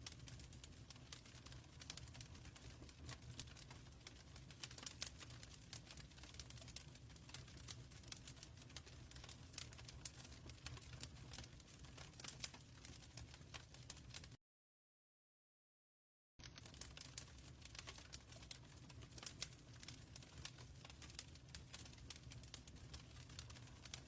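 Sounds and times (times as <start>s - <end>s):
wood fire crackling and popping: 0.0s - 14.4s, 16.4s - 24.0s.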